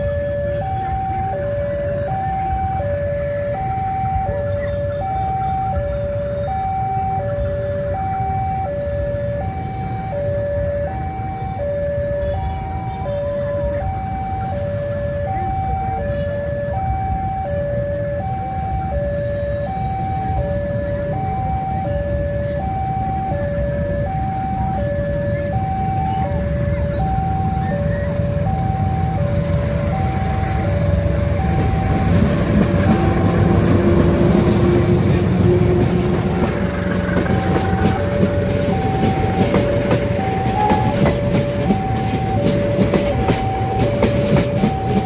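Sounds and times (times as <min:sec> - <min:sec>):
low locomotive rumble: 0:00.0 - 0:45.0
two-tone crossing alarm: 0:00.0 - 0:45.0.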